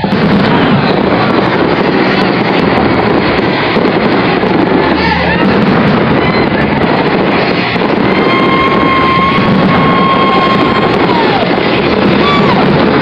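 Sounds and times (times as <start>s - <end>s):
firework whistle: 0.0s - 13.0s
fireworks bursts and crackling: 0.0s - 13.0s.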